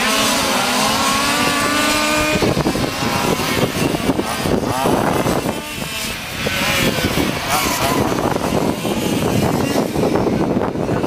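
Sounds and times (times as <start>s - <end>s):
small engines buzzing: 0.0s - 11.0s.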